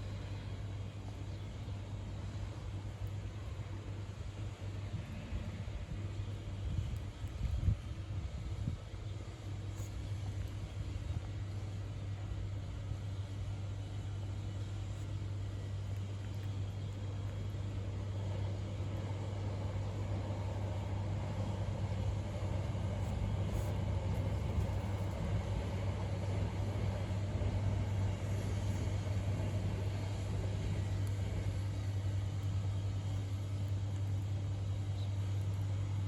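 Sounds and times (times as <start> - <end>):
low traffic hum and rumble: 0.0 - 36.0.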